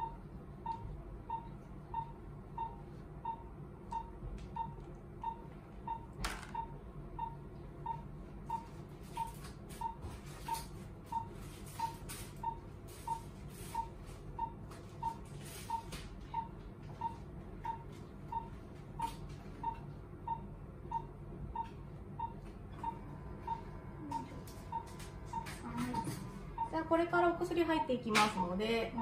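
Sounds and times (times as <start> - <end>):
monitor pulse beeps: 0.0 - 29.0.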